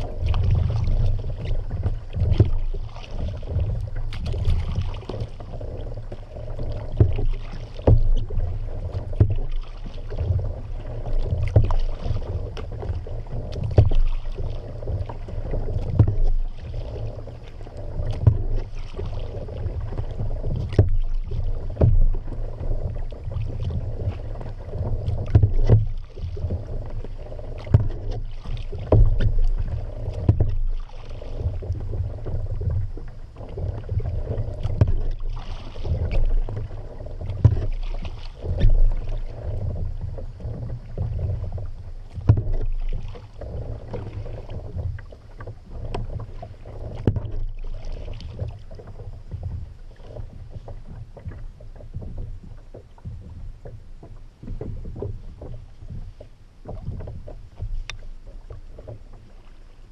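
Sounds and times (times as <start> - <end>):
low uneven rumble: 0.0 - 59.9
paddle strokes splashing: 0.0 - 59.9.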